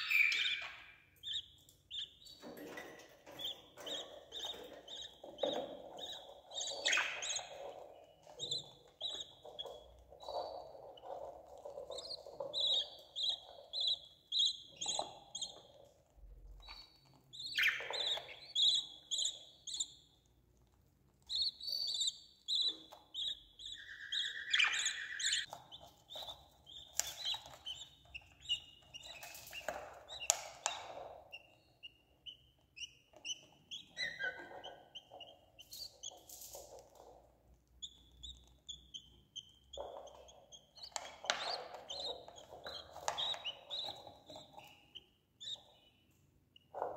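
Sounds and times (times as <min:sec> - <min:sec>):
chicks chirping: 0:00.0 - 0:46.9.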